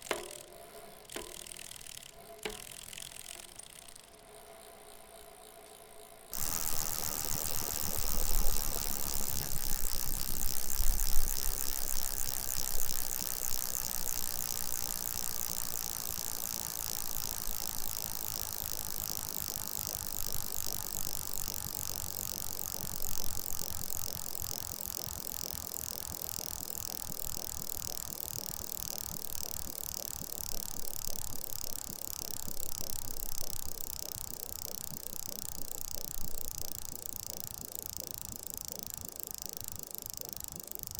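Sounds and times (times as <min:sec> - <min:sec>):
bicycle freewheel clicking: 0:00.0 - 0:40.9.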